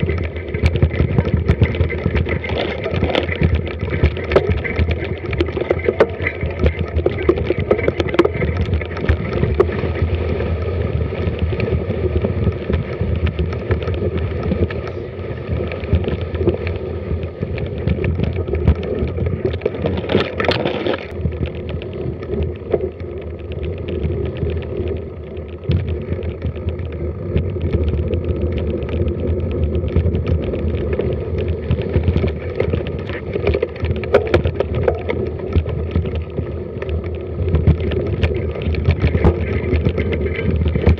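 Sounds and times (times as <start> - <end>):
fine clicking: 0.0 - 40.9
mountain bike rattling over trail: 0.0 - 40.9.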